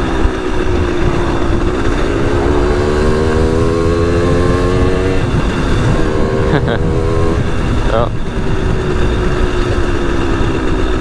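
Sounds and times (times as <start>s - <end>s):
heavy low rumble: 0.0s - 11.0s
two-stroke moped engine: 0.0s - 11.0s.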